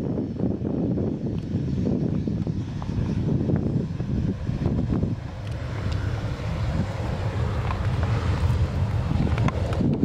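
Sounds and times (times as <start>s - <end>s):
jet engines low rumble: 0.0s - 10.0s
wind buffeting microphone: 0.0s - 10.0s.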